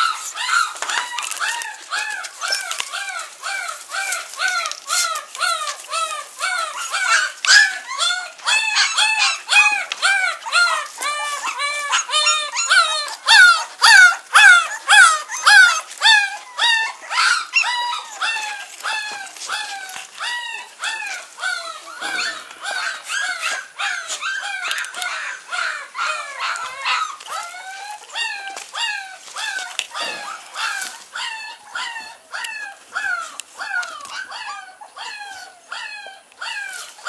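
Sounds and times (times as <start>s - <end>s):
puppies yelping: 0.0s - 37.0s.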